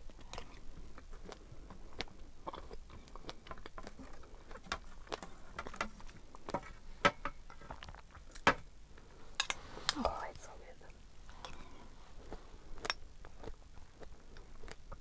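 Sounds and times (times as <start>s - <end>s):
chewing strawberries: 0.0s - 7.0s, 8.9s - 15.0s.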